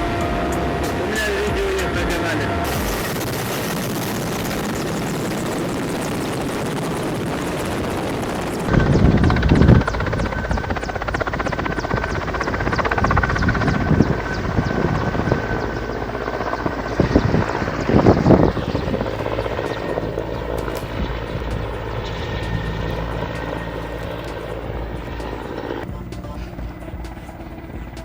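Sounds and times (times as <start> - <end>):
helicopter engine and rotor: 0.0 - 28.0.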